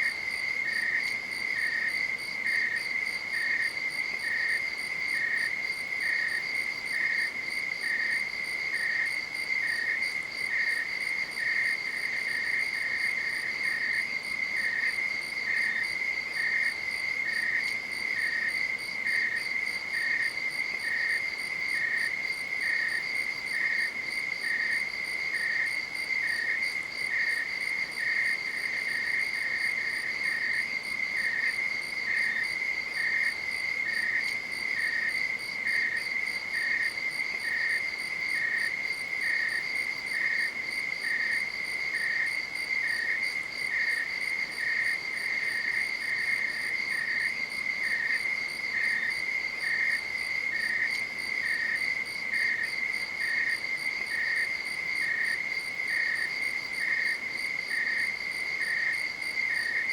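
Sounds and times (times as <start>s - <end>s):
insect chirping rhythmically: 0.0s - 59.9s.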